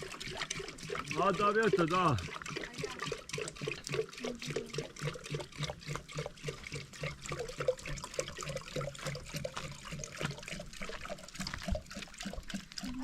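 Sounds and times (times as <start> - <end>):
liquid trickling: 0.0 - 13.0.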